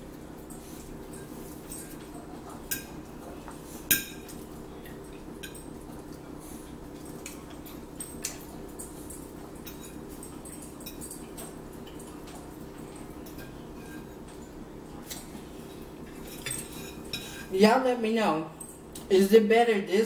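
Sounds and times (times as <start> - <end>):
steady low hum: 0.0 - 20.0
forks clinking on plates: 0.4 - 17.5.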